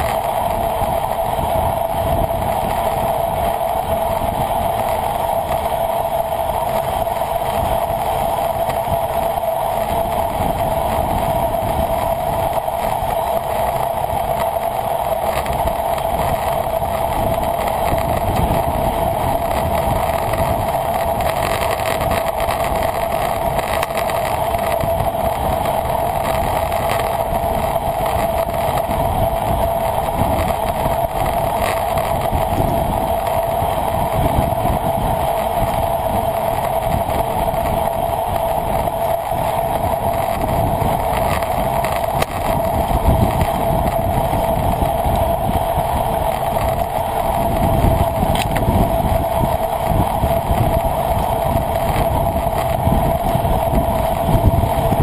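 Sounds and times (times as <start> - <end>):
droning hum: 0.0 - 55.0
wind and road noise: 0.0 - 55.0.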